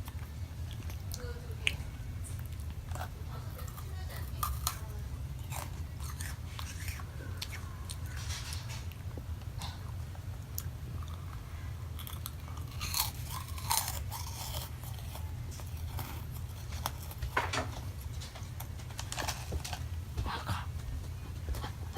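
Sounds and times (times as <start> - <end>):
crunching and chewing cookies: 0.0 - 21.9
steady low hum: 0.0 - 21.9.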